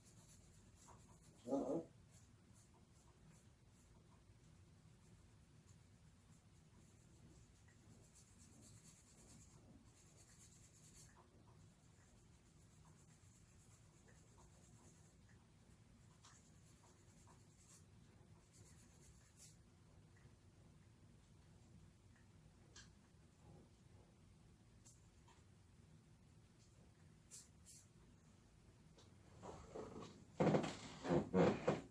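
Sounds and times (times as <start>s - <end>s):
low room hum: 0.0s - 31.9s.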